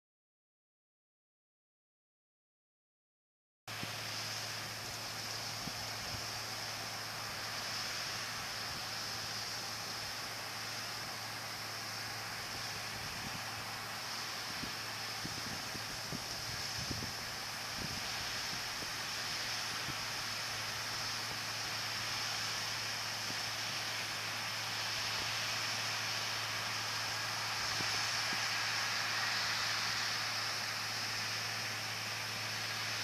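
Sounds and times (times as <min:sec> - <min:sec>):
cotton picker whooshing drone: 0:03.7 - 0:33.0.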